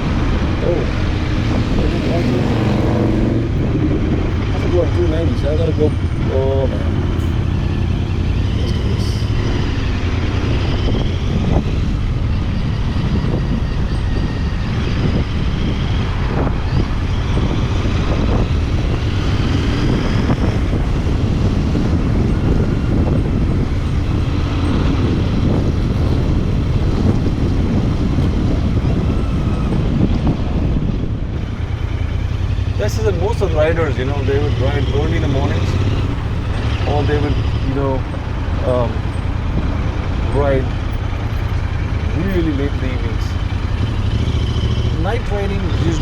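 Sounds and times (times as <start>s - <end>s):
city traffic: 0.0s - 46.0s
low wind rumble: 0.0s - 46.0s
motorcycle engine running: 0.0s - 46.0s.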